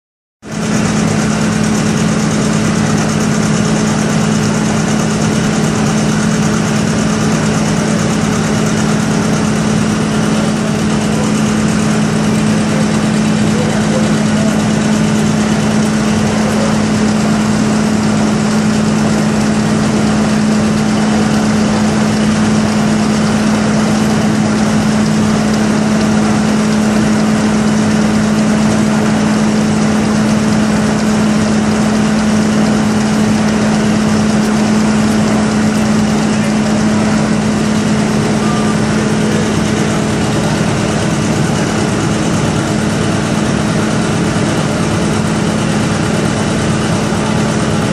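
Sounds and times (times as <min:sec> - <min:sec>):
engine idling: 0:00.4 - 0:47.9.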